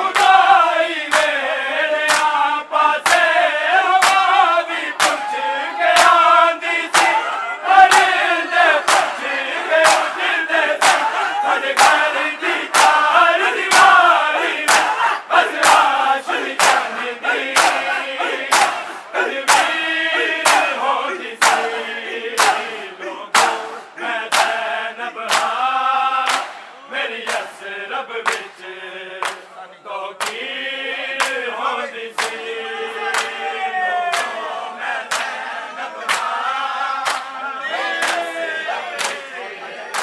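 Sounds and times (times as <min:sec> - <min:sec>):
male voices chanting: 0:00.0 - 0:40.0
men slapping chests in unison: 0:00.0 - 0:40.0.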